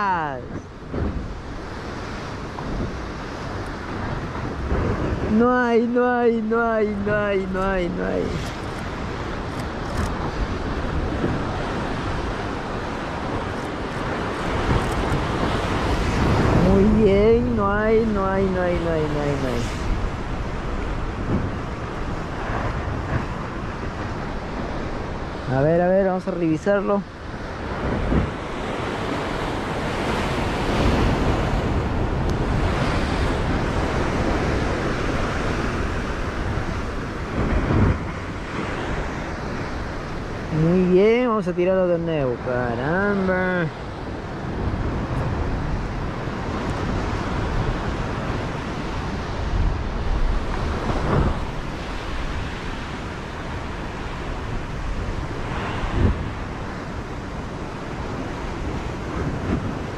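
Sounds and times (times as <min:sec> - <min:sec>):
ocean surf: 0:00.0 - 0:59.9
wind buffeting microphone: 0:00.0 - 0:59.9.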